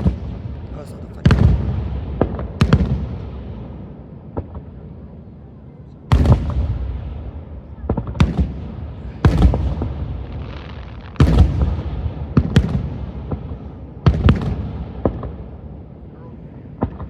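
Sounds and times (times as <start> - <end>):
fireworks bursting with loud bangs: 0.0 - 5.4, 6.0 - 17.0.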